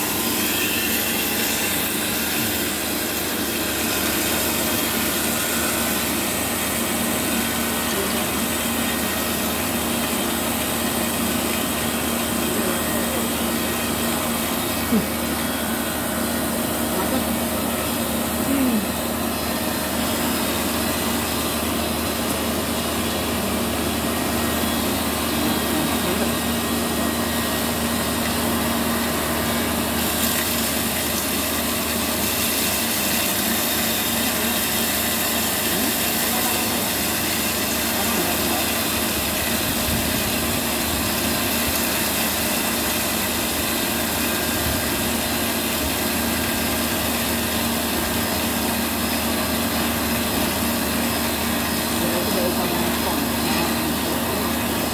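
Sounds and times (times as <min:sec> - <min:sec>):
machine motor humming and whirring: 0:00.0 - 0:54.9.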